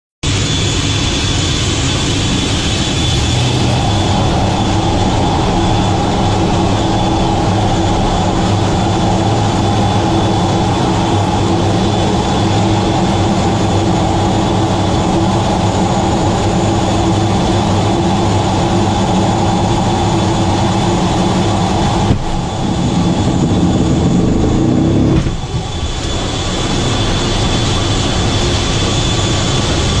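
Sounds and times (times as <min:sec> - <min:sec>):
jet engines running: 0:00.2 - 0:30.0.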